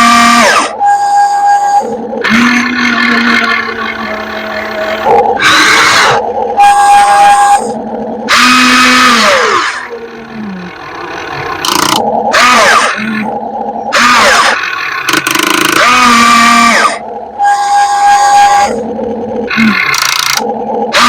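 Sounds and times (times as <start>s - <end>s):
hydraulic pump and motors whining: 0.0s - 21.0s.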